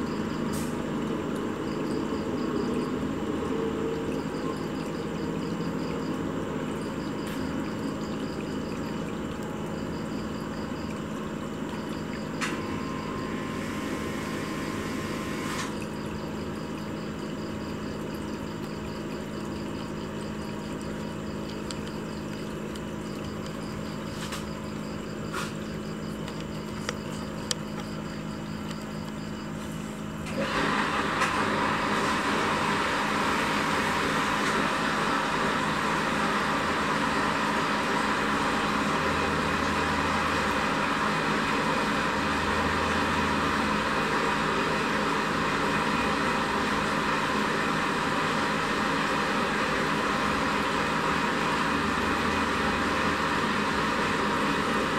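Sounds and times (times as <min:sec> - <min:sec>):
mechanical hum with hiss: 0:00.0 - 0:54.9.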